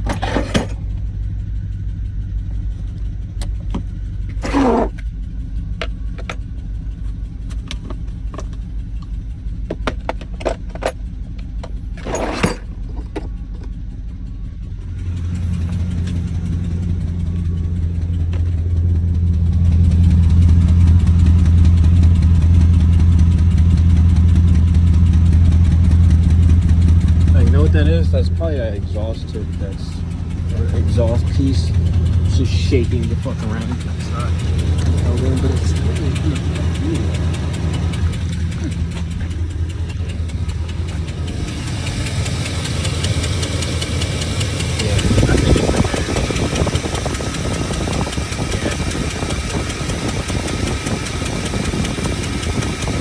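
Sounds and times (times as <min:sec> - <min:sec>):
exhaust leak ticking: 0:00.0 - 0:12.0, 0:12.6 - 0:53.0
truck engine idling: 0:00.0 - 0:53.0.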